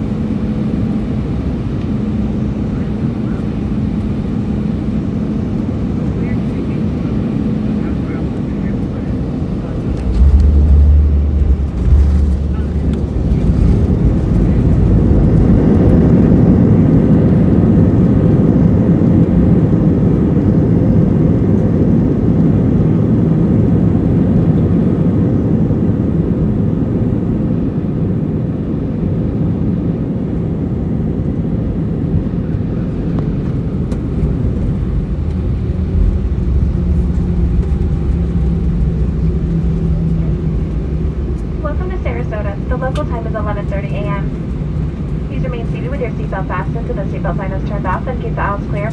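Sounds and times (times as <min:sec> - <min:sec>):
aircraft engine and wheel noise: 0:00.0 - 0:48.9
steady low hum: 0:00.0 - 0:48.9.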